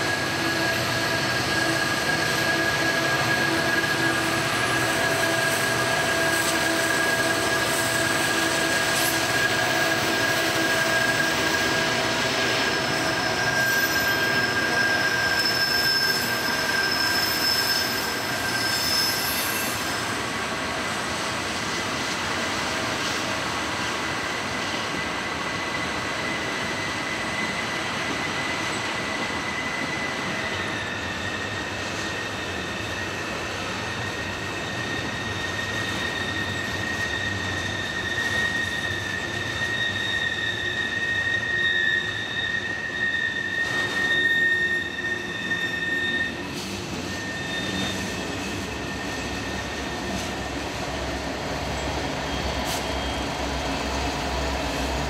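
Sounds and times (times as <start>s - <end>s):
rumble of train wheels: 0.0s - 55.0s
wheel flanges squealing on rails: 0.0s - 55.0s.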